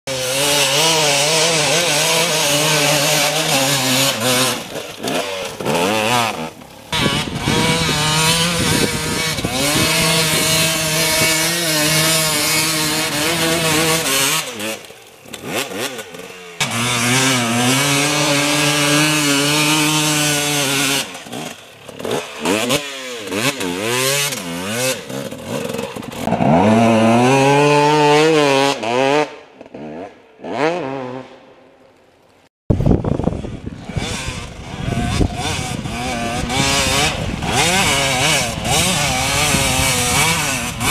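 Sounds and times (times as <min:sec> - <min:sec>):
dirt bike engines revving: 0:00.1 - 0:31.4, 0:33.0 - 0:40.9.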